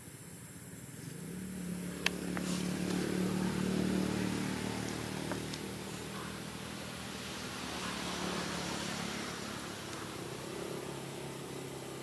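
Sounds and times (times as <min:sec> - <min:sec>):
vehicle engine passing by: 0:00.9 - 0:12.0.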